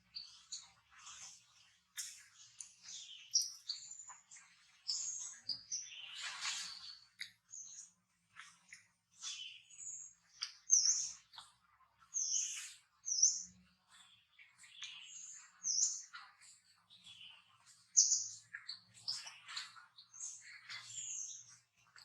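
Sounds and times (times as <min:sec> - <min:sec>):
small animal chirping and squeaking: 0:00.0 - 0:22.0.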